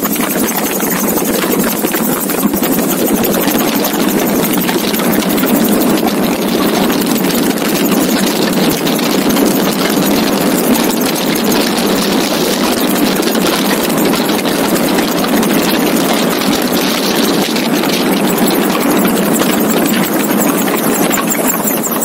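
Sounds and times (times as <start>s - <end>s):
gyrocopter engine idling: 0.0s - 22.0s.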